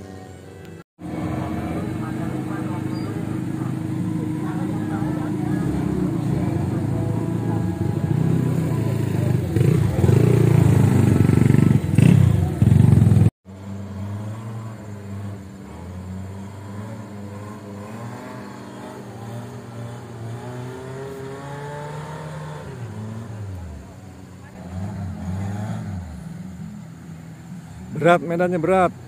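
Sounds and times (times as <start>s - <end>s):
distant engine climbing: 0.0s - 29.0s
loud engine revving: 1.0s - 28.6s.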